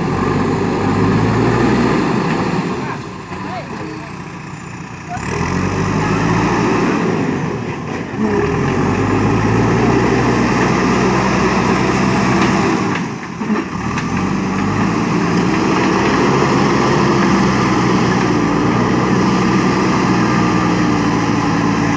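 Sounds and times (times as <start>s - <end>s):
diesel engine working hard: 0.0s - 21.9s.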